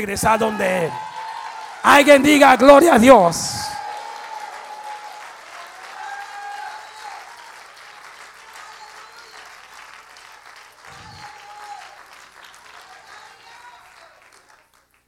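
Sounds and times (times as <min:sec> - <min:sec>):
congregation applauding: 0:00.0 - 0:15.0.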